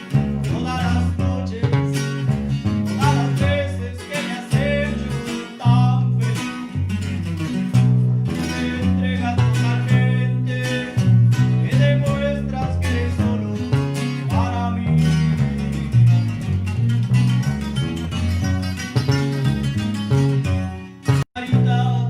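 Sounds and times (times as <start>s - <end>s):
bass line: 0.0s - 22.0s
guitars strummed and plucked: 0.0s - 22.0s.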